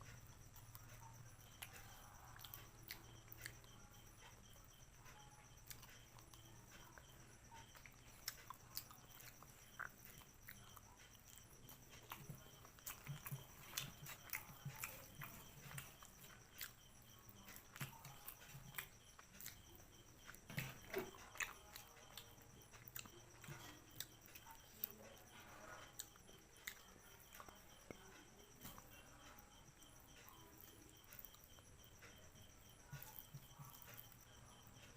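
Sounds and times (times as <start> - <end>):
chewing and mouth smacks: 0.0 - 34.9.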